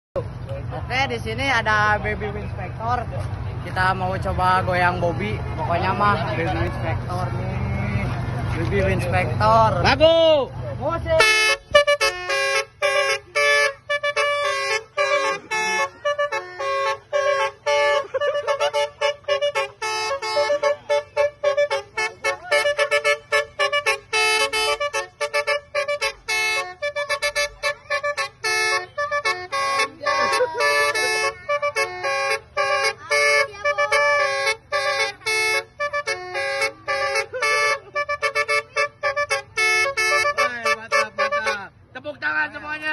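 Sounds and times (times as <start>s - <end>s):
multi-tone musical vehicle horn: 4.6s - 10.0s, 10.8s - 42.9s.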